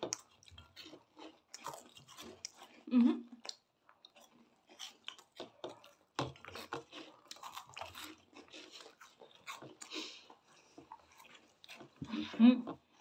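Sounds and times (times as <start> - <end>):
people crunching cheese balls: 0.0 - 13.0.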